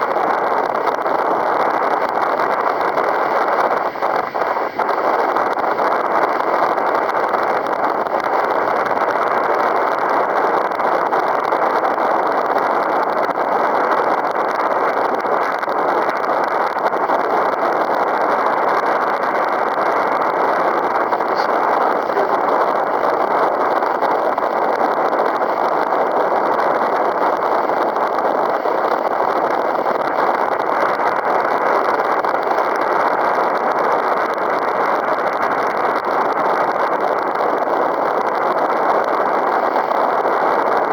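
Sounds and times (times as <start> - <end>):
strong wind on microphone: 0.0 - 40.9.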